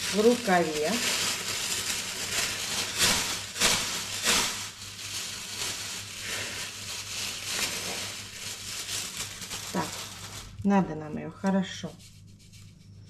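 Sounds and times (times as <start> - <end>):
plastic sleeve crinkling: 0.0 - 10.8.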